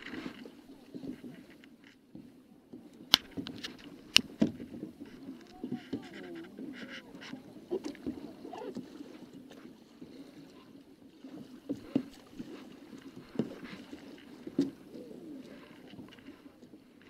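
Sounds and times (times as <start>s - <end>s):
paddles splashing in water: 0.0s - 17.0s.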